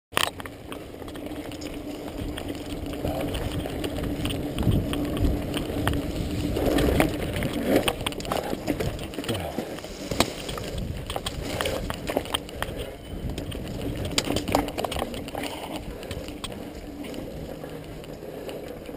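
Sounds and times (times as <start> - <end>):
bike frame and chain rattling: 0.1 - 18.9.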